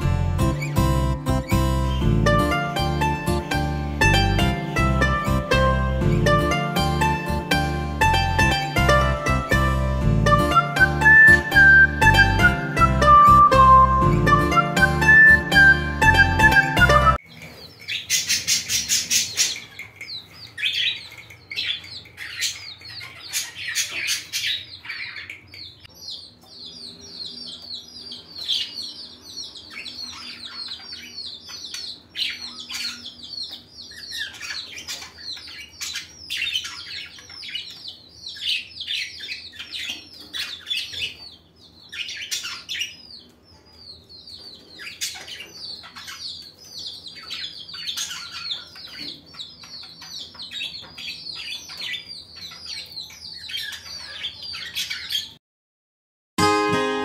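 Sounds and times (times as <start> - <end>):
small birds chirping: 0.0 - 55.4.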